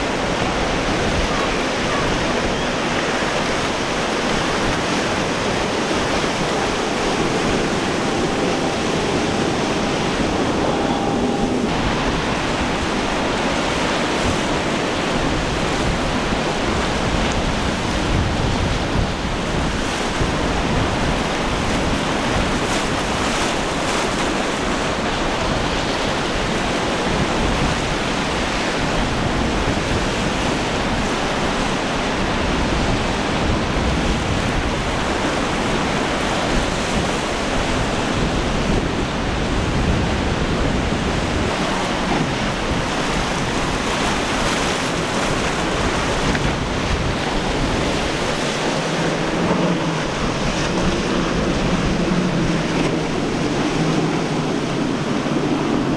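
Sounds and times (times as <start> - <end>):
churning water: 0.0 - 55.9
waves breaking: 0.0 - 55.9
wind buffeting microphone: 0.0 - 55.9.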